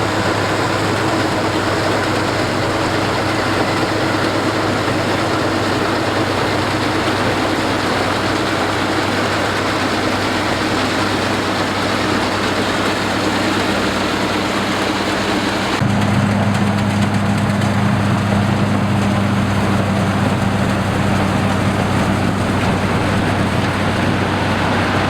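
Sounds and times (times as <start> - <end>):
combine harvester engine hum: 0.0 - 25.0
dense mechanical noise: 0.0 - 25.0.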